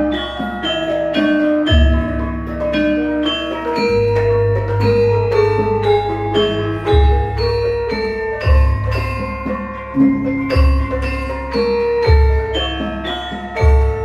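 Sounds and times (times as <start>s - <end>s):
bronze metallophones ringing: 0.0s - 14.0s.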